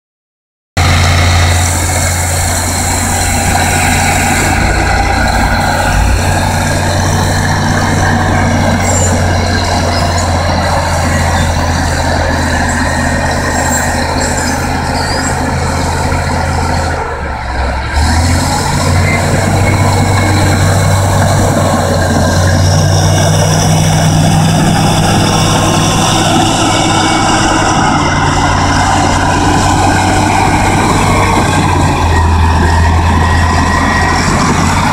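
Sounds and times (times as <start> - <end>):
bulldozer diesel engine under load: 0.8 - 34.9.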